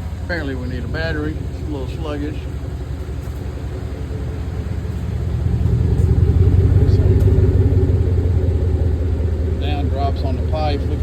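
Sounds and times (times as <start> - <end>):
engine exhaust rumble: 0.0 - 11.0.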